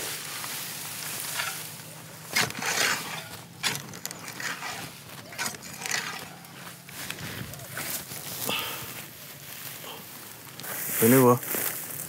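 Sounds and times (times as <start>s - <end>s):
straw crackling and crunching: 0.0s - 12.0s.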